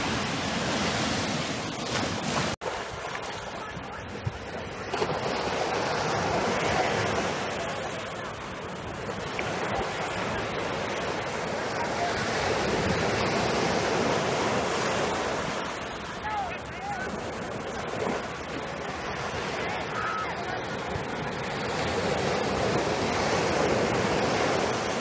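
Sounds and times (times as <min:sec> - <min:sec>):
sea waves breaking on sand: 0:00.0 - 0:25.0.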